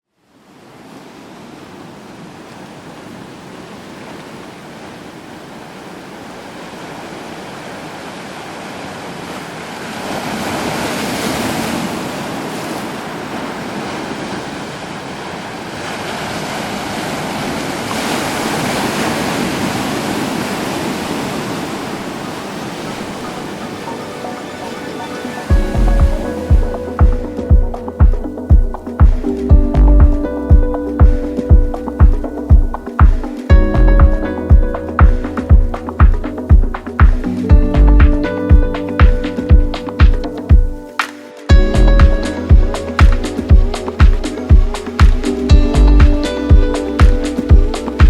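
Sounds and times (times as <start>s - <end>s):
waves breaking: 0.3s - 48.0s.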